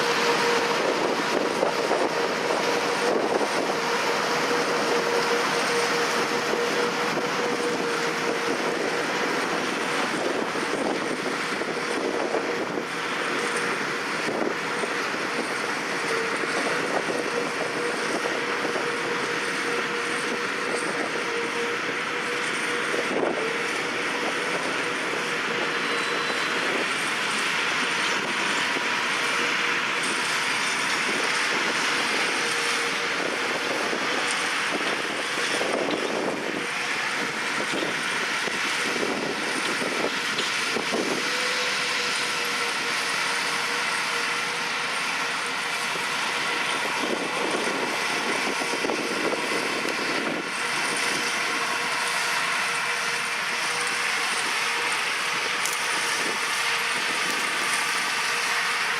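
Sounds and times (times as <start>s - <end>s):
tractor pulling combine with whine: 0.0s - 58.9s.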